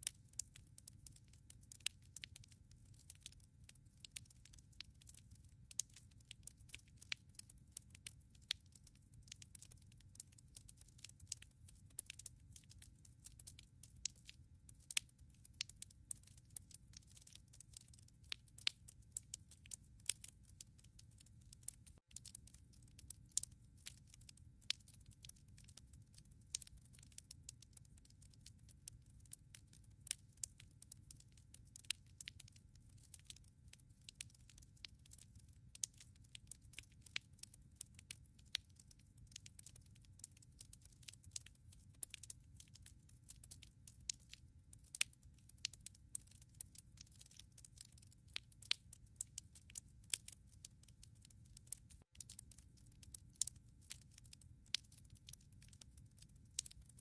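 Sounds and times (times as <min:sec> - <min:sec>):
logs crackling and popping: 0:00.0 - 0:56.9.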